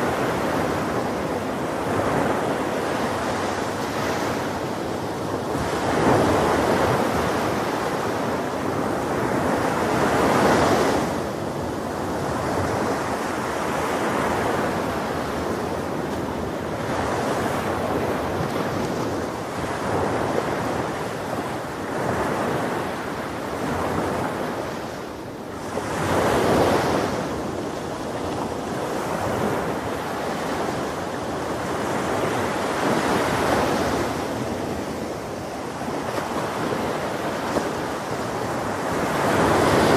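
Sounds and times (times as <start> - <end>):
ocean waves breaking: 0.0 - 39.9
wind on microphone: 0.0 - 39.9.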